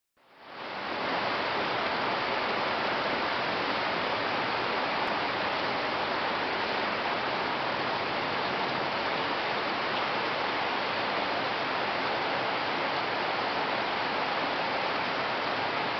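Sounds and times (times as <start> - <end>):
steady rain falling: 0.2 - 15.9.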